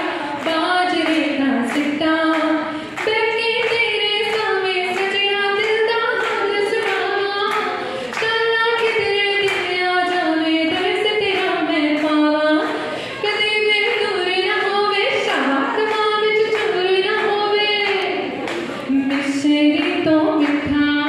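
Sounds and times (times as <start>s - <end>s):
hand clapping: 0.0s - 21.0s
woman singing into a microphone: 0.0s - 21.0s.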